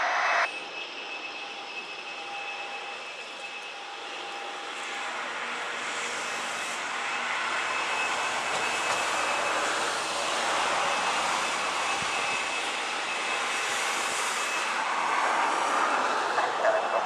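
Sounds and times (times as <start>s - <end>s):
jet engines whining on approach: 0.0s - 17.0s.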